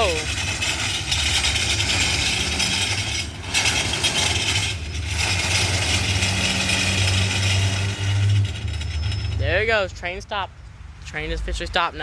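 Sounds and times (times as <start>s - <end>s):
diesel locomotive engines droning: 0.0s - 12.0s.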